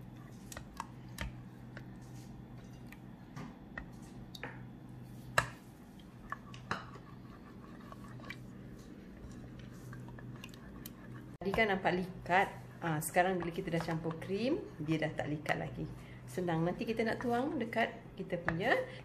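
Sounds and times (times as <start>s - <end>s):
wet squish of stirring custard: 0.0s - 15.4s.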